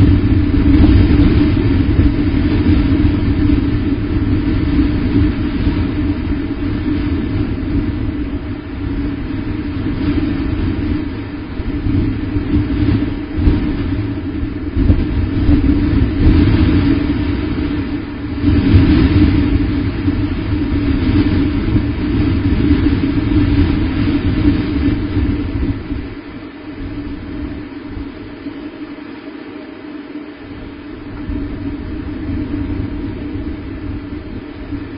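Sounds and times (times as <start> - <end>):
wind buffeting a microphone: 0.0 - 34.9.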